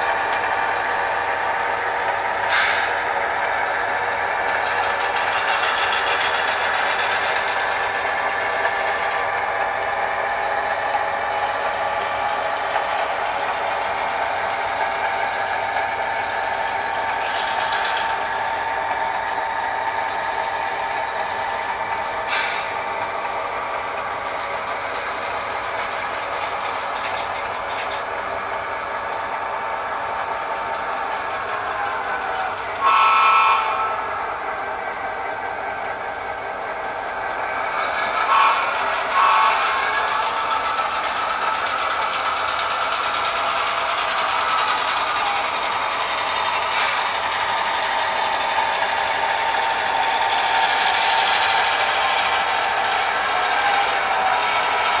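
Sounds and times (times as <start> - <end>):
model train diesel engine sound: 0.0 - 55.0.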